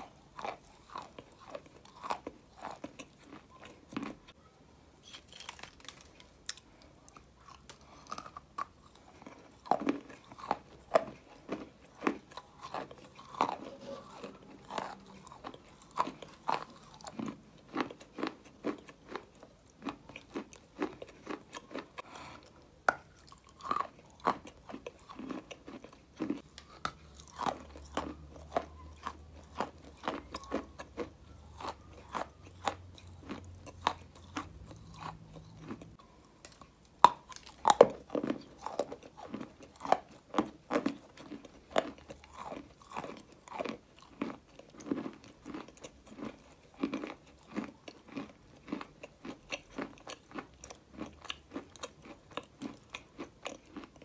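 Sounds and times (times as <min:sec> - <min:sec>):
rhythmic chewing: 0:00.0 - 0:54.0.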